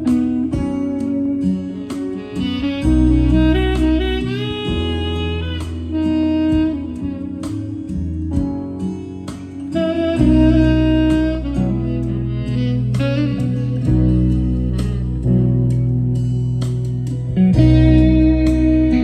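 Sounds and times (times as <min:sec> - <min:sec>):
recorded music with guitar and bass: 0:00.0 - 0:19.0.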